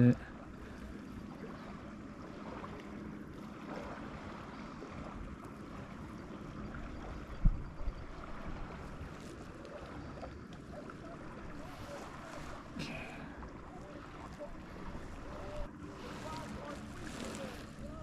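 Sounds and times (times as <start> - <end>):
lake water: 0.0 - 18.0
light wind: 0.0 - 18.0.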